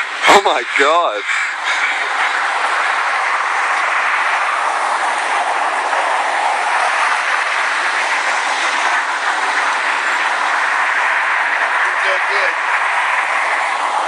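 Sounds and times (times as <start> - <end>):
flock of crows cawing: 0.0 - 14.0.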